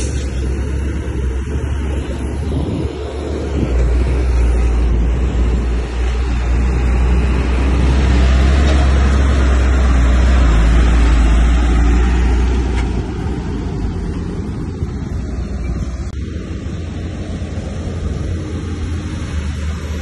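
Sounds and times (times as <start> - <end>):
bulldozer diesel engine rumbling: 0.0 - 20.0.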